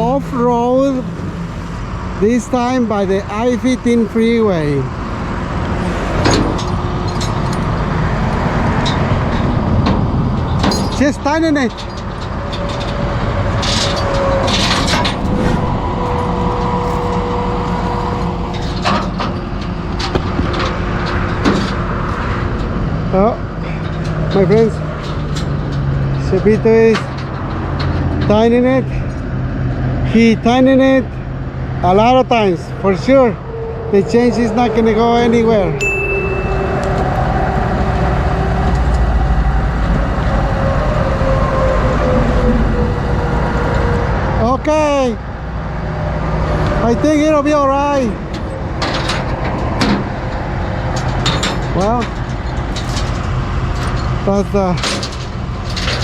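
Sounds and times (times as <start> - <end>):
freeway traffic rumble: 0.0 - 56.0.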